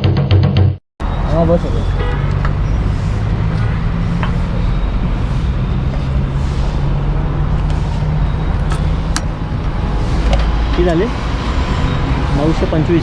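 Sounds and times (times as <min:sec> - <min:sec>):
road and traffic noise: 0:01.0 - 0:13.0
vehicle engine humming: 0:01.0 - 0:13.0.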